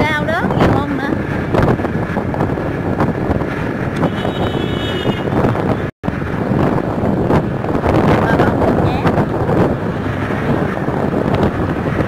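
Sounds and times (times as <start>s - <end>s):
road and traffic noise: 0.0s - 12.0s
wind rushing over microphone: 0.0s - 12.0s.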